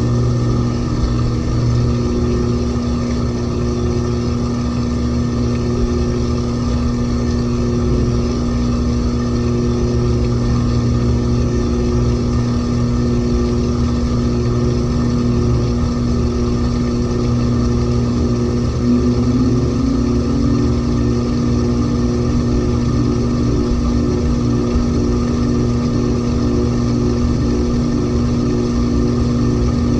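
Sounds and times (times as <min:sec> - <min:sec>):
washing machine spinning: 0:00.0 - 0:29.9.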